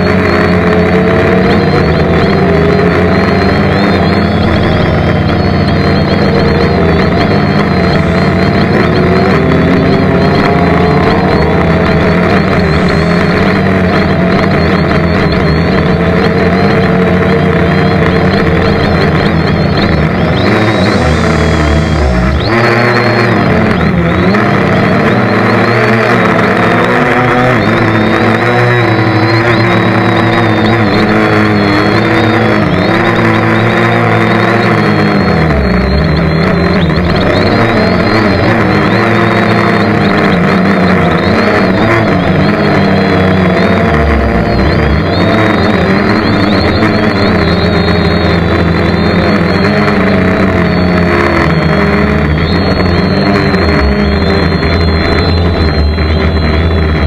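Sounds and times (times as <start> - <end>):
loud engine-like noise: 0.0 - 57.0.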